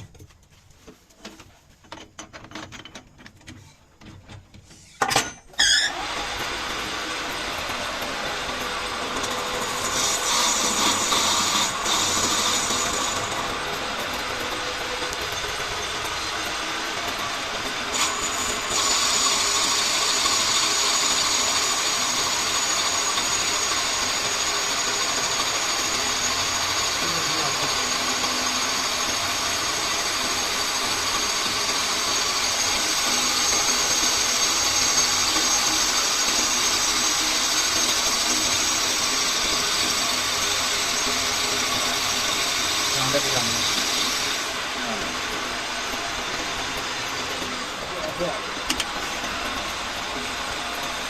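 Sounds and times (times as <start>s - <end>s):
metal lathe droning: 5.6s - 51.0s.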